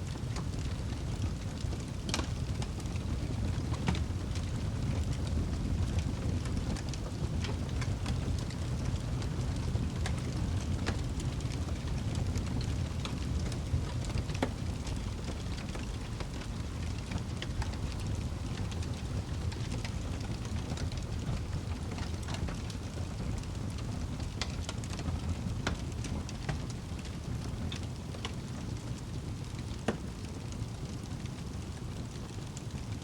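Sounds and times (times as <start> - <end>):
fire crackling and popping: 0.0 - 33.0
low rush of flame: 0.0 - 33.0.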